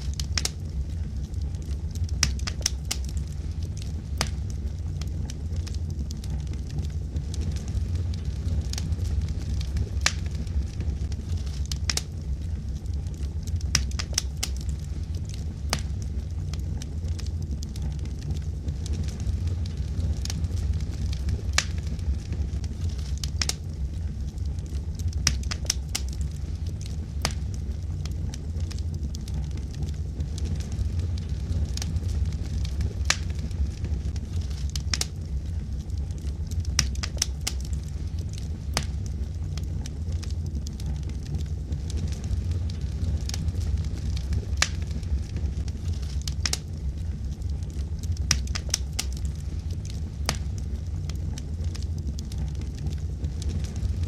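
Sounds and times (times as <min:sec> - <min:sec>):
fireplace flames rumbling: 0:00.0 - 0:54.0
wood fire crackling and popping: 0:00.0 - 0:54.0.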